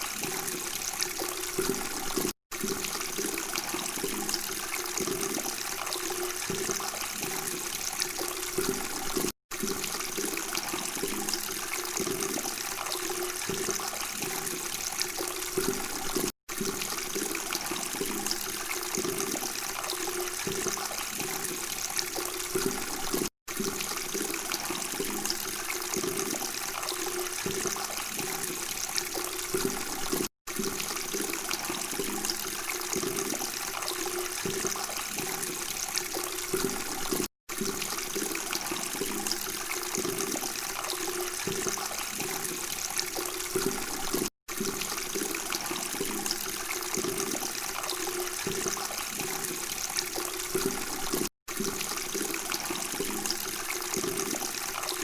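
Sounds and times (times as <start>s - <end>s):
running water babbling: 0.0s - 55.0s.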